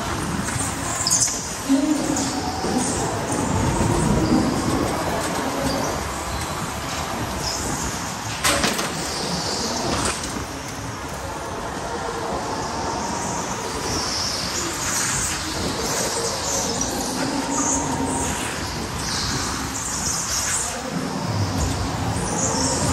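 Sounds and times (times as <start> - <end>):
electric go-kart motor and tyres: 0.0 - 22.9.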